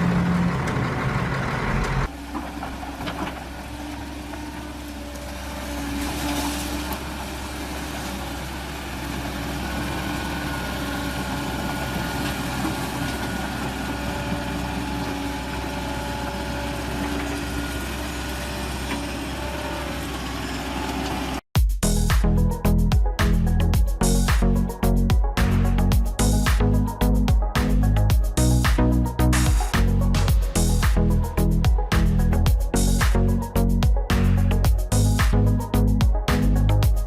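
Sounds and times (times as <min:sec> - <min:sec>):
heavy vehicle engine running: 0:00.0 - 0:21.5, 0:22.4 - 0:37.0.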